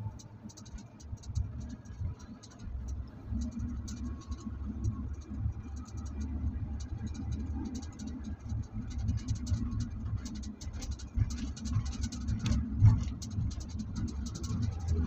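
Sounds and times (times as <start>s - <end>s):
road rumble inside moving car: 0.0s - 15.0s
small scratchy clicks: 0.0s - 15.0s.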